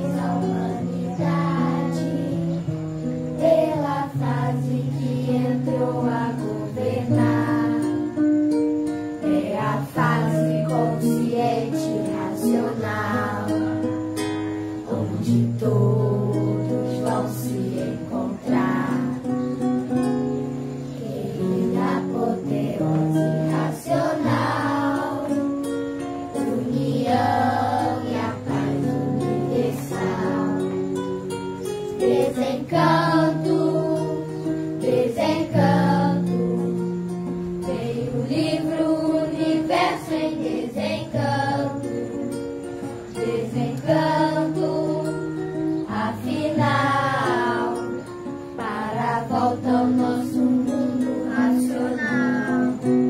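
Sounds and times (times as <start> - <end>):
children singing: 0.0 - 8.3, 8.9 - 20.1, 20.7 - 53.0
strummed acoustic guitar: 0.0 - 53.0.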